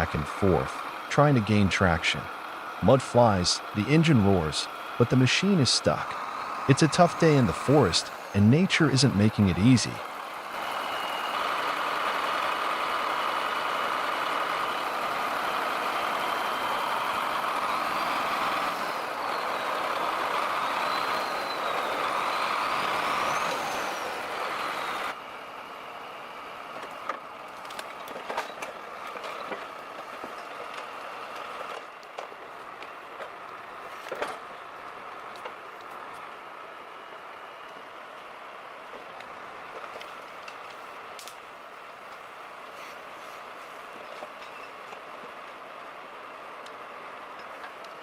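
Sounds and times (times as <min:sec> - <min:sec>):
engine whine: 0:00.0 - 0:48.0
tractor diesel engine straining: 0:00.0 - 0:48.0.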